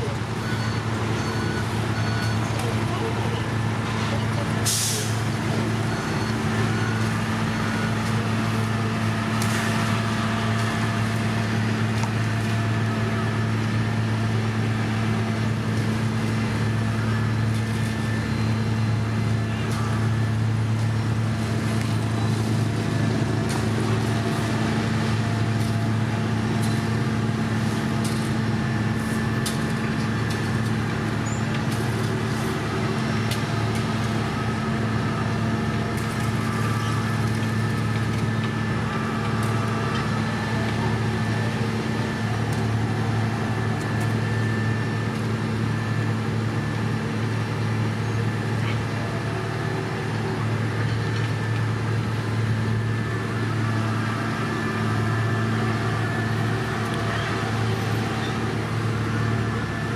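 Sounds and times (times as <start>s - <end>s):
diesel machinery humming: 0.0s - 59.9s.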